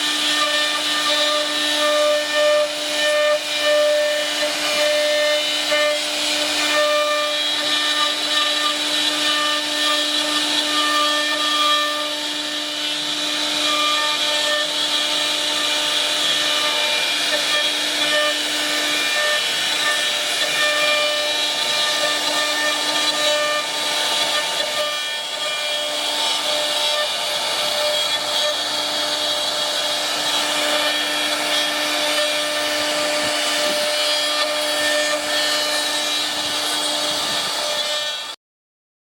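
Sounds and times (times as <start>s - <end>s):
router spindle cutting wood: 0.0s - 38.4s.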